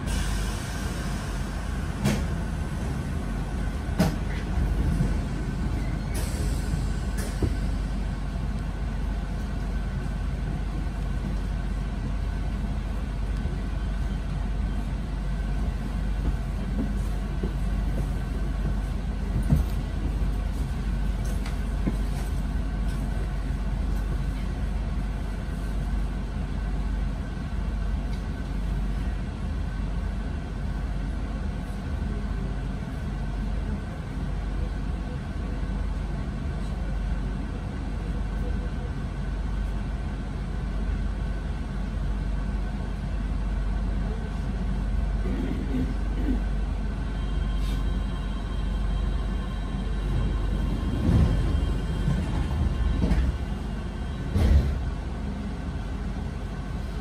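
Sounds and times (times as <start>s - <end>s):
train equipment low hum: 0.0s - 57.0s.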